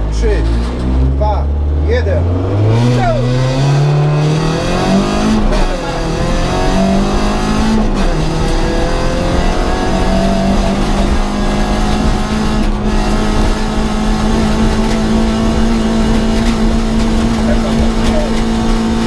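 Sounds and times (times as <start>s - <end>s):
rally car engine pulling hard: 0.0s - 19.0s.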